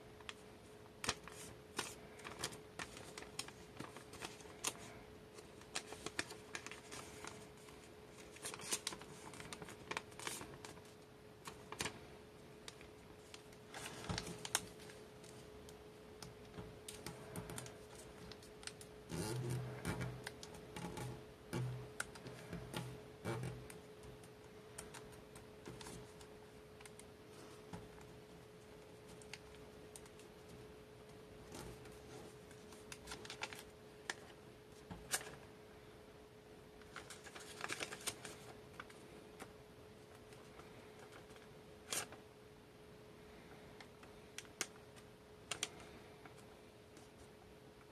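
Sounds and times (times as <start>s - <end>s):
paper crackling and rustling: 0.2s - 12.0s, 12.7s - 35.5s, 36.8s - 42.2s, 43.8s - 47.3s.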